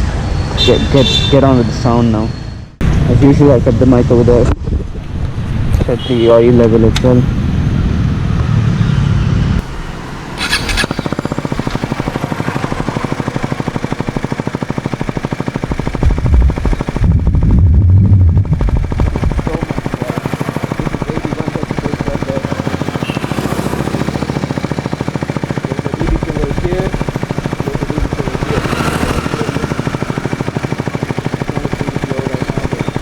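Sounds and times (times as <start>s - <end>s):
motorcycle engine revving and idling: 0.1s - 33.0s.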